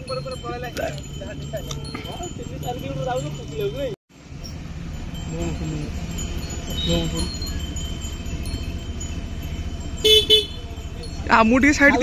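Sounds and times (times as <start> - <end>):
small bells chiming: 0.0 - 12.0.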